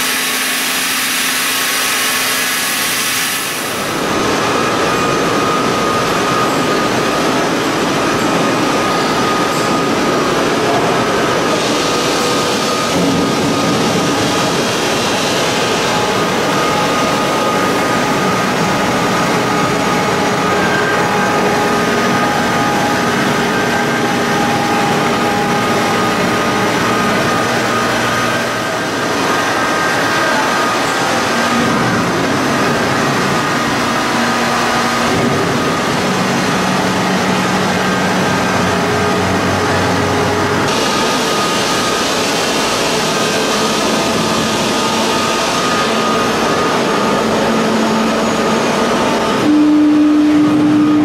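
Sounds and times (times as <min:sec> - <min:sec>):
faint machine whines: 0:00.0 - 0:51.0
stone-cutting machinery running: 0:00.0 - 0:51.0.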